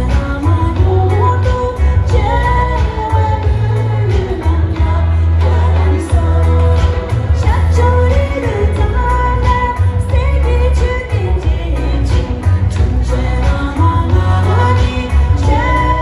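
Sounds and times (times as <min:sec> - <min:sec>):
man and woman singing duet: 0:00.0 - 0:16.0
pop music with heavy bass: 0:00.0 - 0:16.0.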